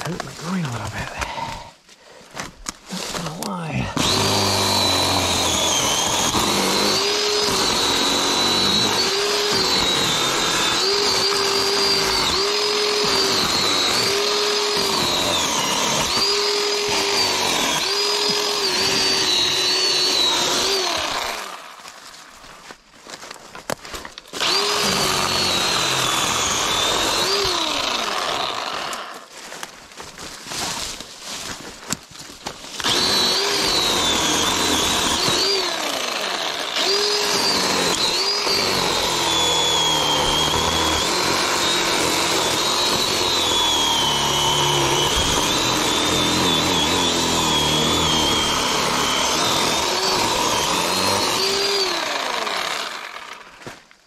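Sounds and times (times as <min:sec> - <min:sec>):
electric cutting tool motor whining: 0:03.0 - 0:21.9, 0:24.3 - 0:29.3, 0:32.8 - 0:53.6.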